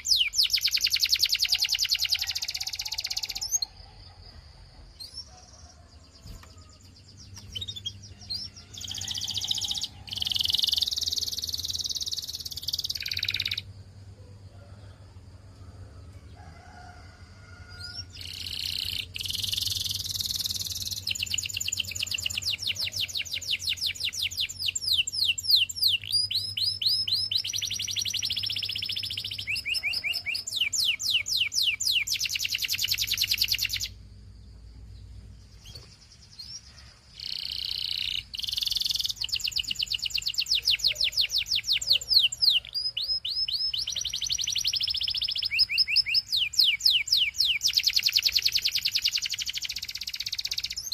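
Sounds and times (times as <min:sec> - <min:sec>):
canary singing trills: 0:00.0 - 0:14.8, 0:17.5 - 0:50.9.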